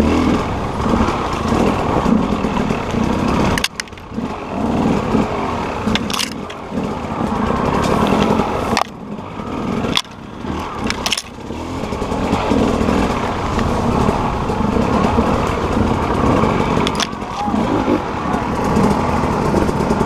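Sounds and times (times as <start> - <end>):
dirt bike engine: 0.0 - 20.0.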